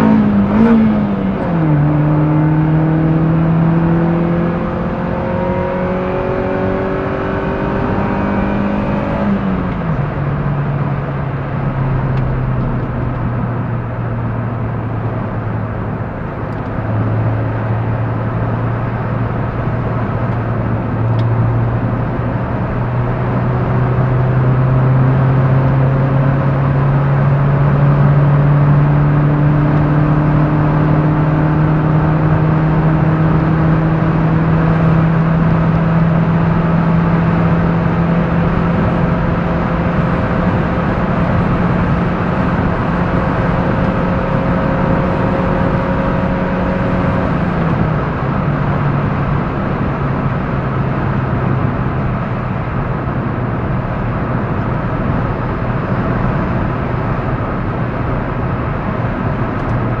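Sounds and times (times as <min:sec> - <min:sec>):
car engine running: 0:00.0 - 1:00.0
road and wind noise: 0:00.0 - 1:00.0.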